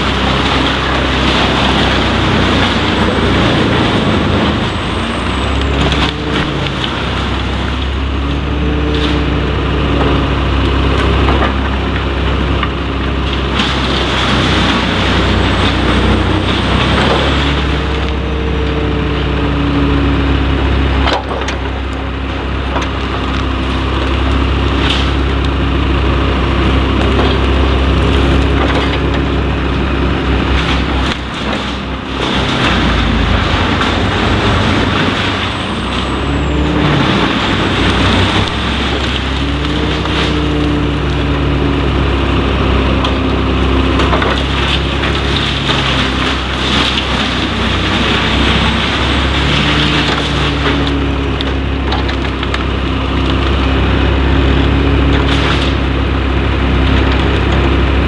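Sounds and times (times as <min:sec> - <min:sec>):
wood chipper din with whine: 0:00.0 - 0:58.0
wood cracking: 0:00.0 - 0:58.0.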